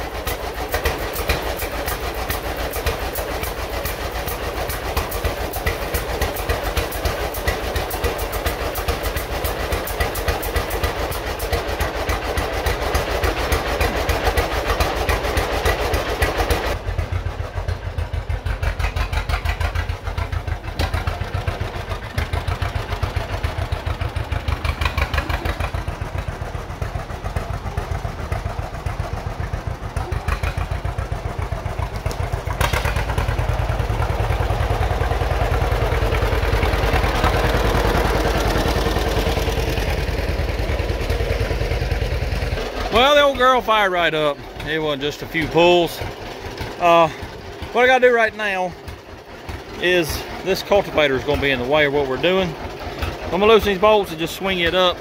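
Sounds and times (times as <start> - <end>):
tractor engine putt-putt: 0.0 - 55.0.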